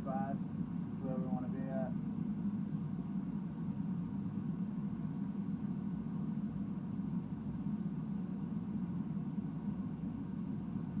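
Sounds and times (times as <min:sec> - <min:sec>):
burner low rumble: 0:00.0 - 0:11.0.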